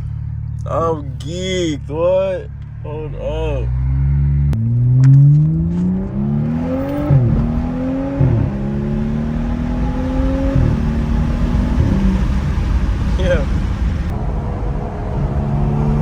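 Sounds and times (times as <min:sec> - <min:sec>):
car engine accelerating through gears: 0:02.6 - 0:16.0.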